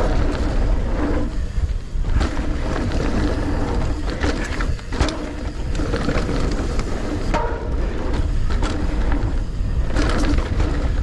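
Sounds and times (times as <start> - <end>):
bike rattling over bumps: 0.0 - 11.0
tyres on loose dirt: 0.0 - 11.0
wind rumbling on microphone: 0.0 - 11.0.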